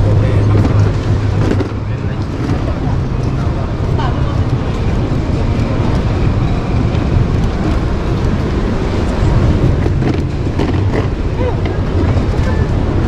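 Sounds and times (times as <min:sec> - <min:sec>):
indistinct voices: 0:00.0 - 0:13.0
low hall rumble: 0:00.0 - 0:13.0.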